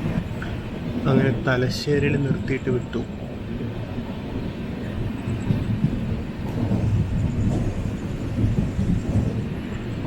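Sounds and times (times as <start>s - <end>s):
train coach rumbling on rails: 0.0s - 10.0s.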